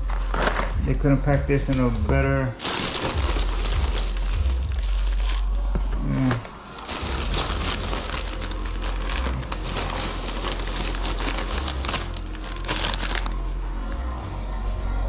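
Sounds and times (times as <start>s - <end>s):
packing paper crinkling and rustling: 0.0s - 0.8s, 1.6s - 13.4s
background music with bass line: 0.0s - 15.0s.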